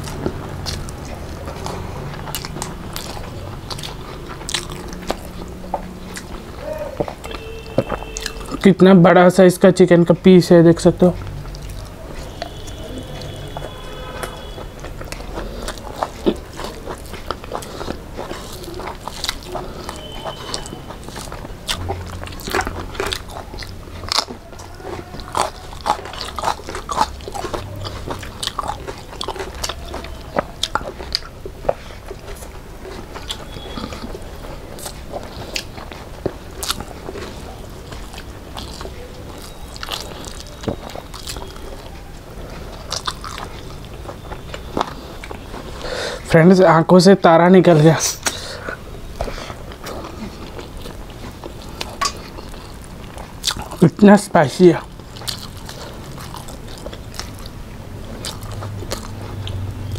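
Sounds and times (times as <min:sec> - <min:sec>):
people chewing and mouth sounds: 0:00.0 - 0:59.9.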